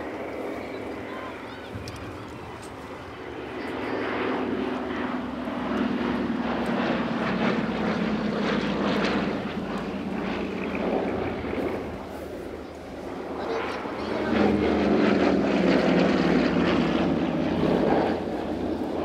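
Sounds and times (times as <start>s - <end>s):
propeller plane engines droning: 0.0s - 19.0s.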